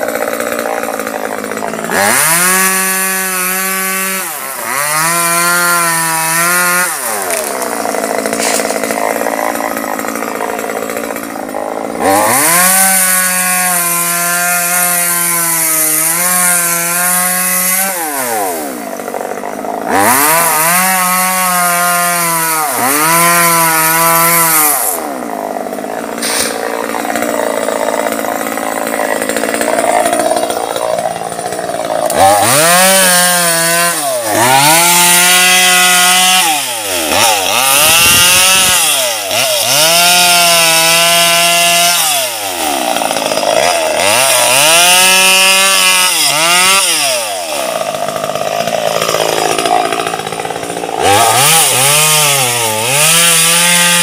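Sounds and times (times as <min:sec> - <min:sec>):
chainsaw revving and cutting: 0:00.0 - 0:54.0.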